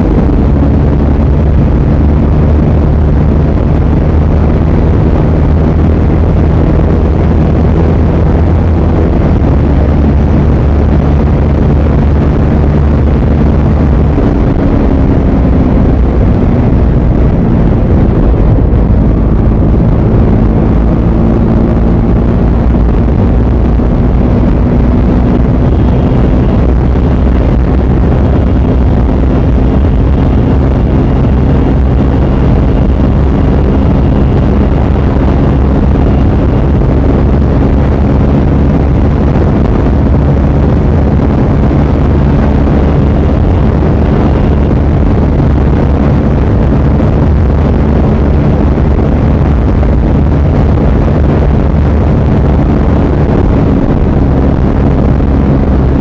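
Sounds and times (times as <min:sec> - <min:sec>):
motorcycle engine at high revs: 0:00.0 - 0:56.0
wind blast on microphone: 0:00.0 - 0:56.0.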